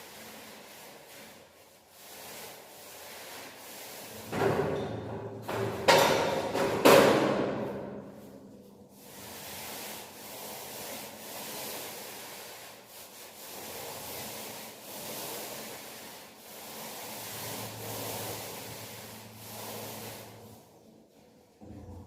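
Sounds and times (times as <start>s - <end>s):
paint roller rubbing on wall: 0.0s - 22.0s.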